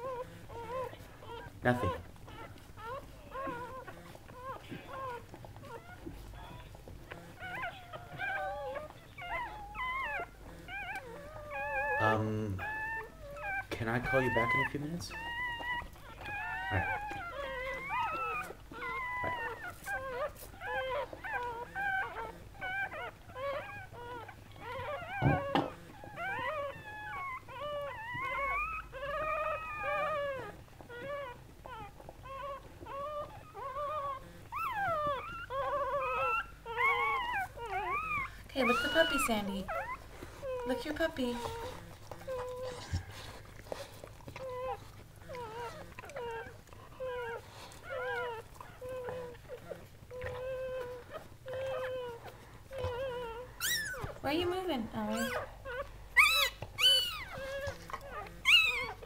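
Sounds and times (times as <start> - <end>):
puppy squealing: 0.0 - 59.0.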